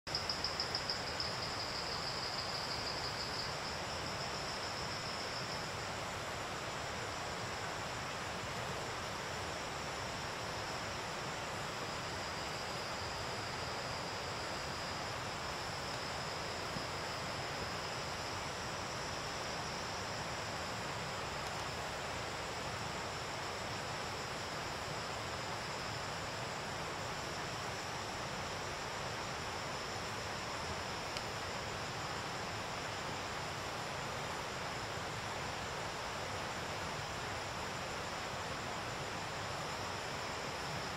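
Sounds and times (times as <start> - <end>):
high pulsing insect trill: 0.1 - 40.9
steady background hiss: 0.1 - 40.9.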